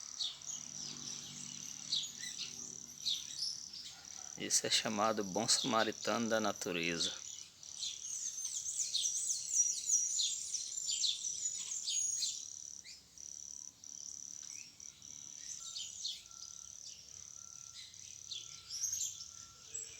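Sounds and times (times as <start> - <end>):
high insect buzz: 0.0 - 19.9
small birds chirping: 0.0 - 19.9.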